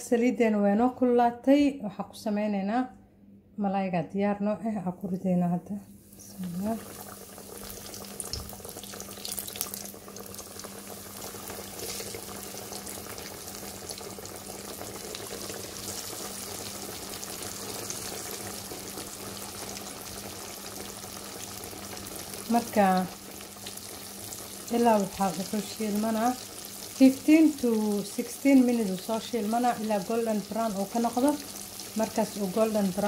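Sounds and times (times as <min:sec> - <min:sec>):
fish sizzling in hot oil: 0:06.0 - 0:33.0
oil crackling: 0:06.4 - 0:33.0.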